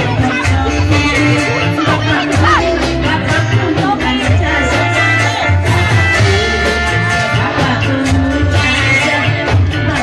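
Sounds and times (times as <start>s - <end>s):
amplified band playing: 0.0s - 10.0s
steady drumming: 0.0s - 10.0s
woman singing into a microphone: 0.0s - 10.0s.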